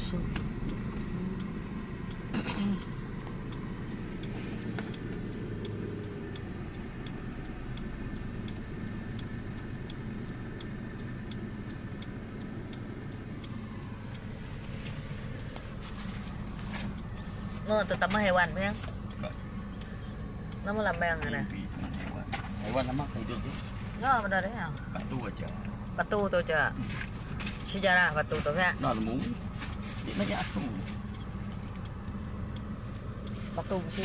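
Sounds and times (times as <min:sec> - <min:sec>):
car rumbling: 0:00.0 - 0:34.0
light ticking: 0:00.0 - 0:34.0.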